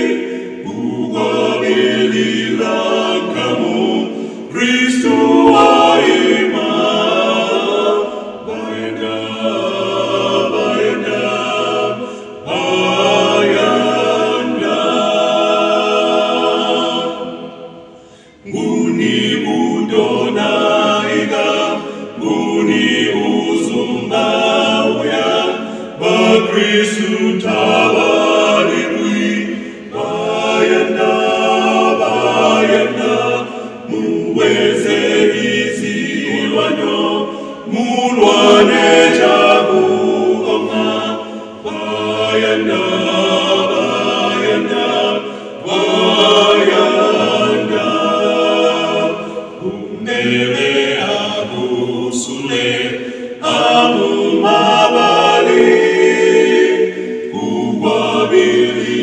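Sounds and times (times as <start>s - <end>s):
male vocal quartet singing: 0.0s - 59.0s.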